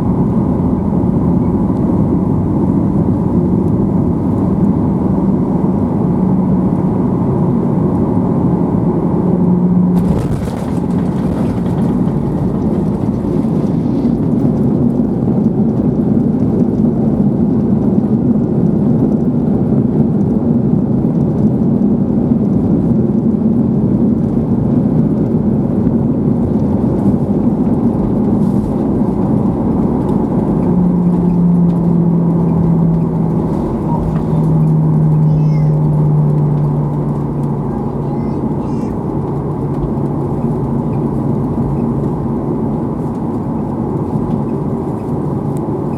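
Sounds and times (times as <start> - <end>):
airplane cabin engine roar: 0.0 - 45.9
low hum: 0.0 - 45.9.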